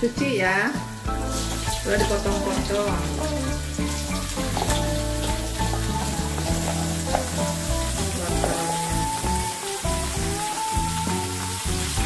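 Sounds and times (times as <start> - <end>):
carrots sizzling in a wok: 0.0 - 12.0.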